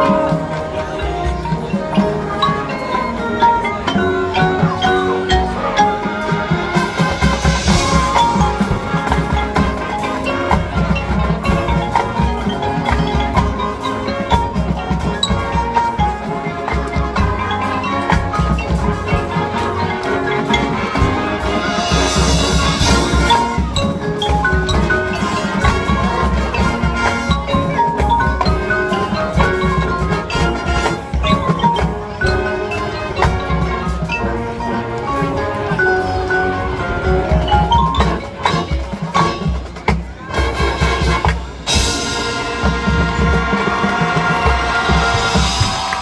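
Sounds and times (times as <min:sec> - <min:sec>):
drums: 0:00.0 - 0:46.0
marching band playing: 0:00.0 - 0:46.0
marimbas and mallet percussion: 0:00.0 - 0:46.0.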